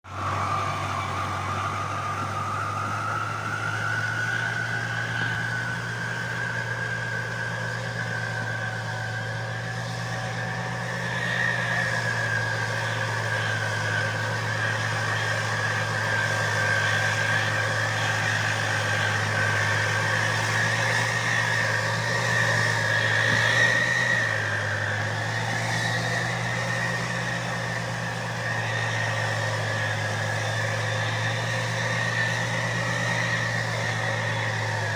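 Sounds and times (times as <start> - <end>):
tractor diesel engine droning: 0.0 - 34.9.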